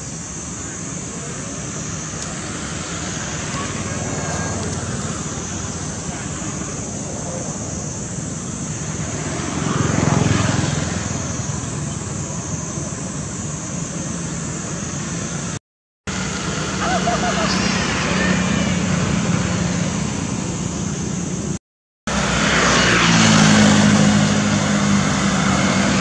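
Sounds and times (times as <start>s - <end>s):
engine rumble: 0.0s - 26.0s
motor vehicle passing: 1.1s - 26.0s.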